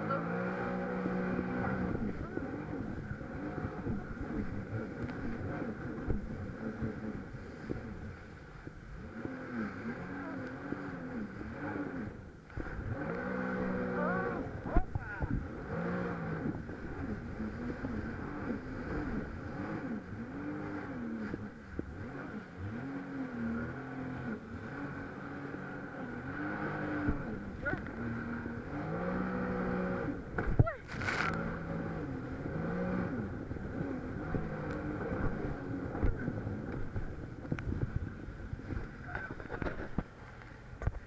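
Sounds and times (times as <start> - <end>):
jet ski engine revving: 0.0 - 41.0
water and wind noise: 0.0 - 41.0.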